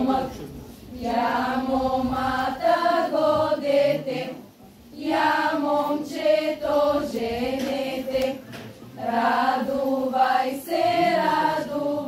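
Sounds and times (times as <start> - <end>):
women and girls singing together: 0.0 - 12.0.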